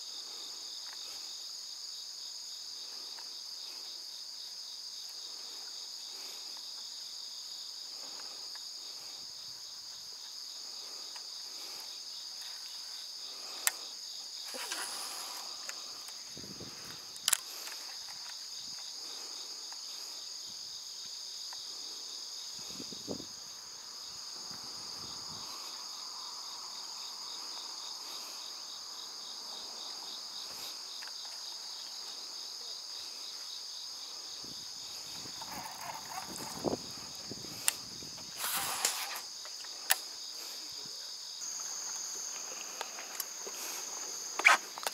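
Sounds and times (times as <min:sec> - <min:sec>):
insects chirring: 0:00.0 - 0:44.9.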